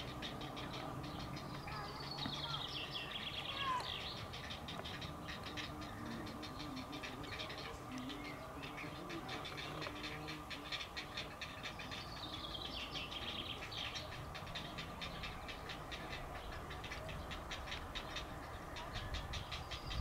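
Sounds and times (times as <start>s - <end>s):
heron chicks clattering chatter: 0.0s - 20.0s.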